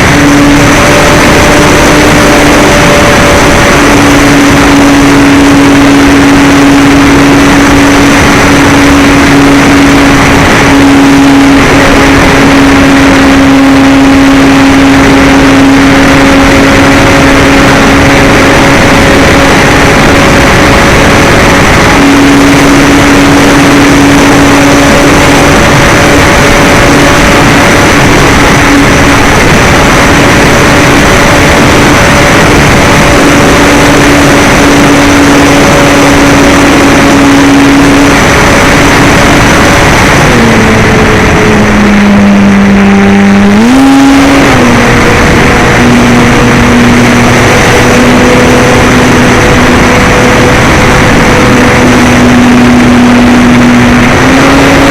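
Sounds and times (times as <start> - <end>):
loud rushing noise: 0.0 - 54.9
model airplane motor humming: 0.0 - 54.9.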